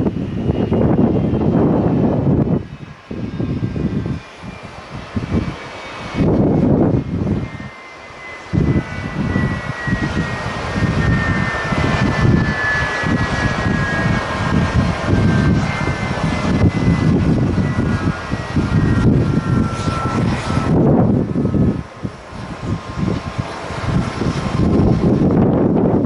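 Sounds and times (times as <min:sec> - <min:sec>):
jet engine whining: 0:00.0 - 0:26.0
wind buffeting microphone: 0:00.0 - 0:26.0.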